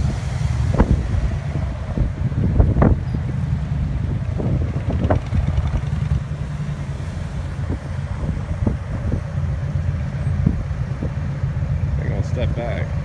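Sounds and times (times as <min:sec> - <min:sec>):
motorcycle engine rumbling: 0:00.0 - 0:13.0
wind buffeting microphone: 0:00.0 - 0:13.0.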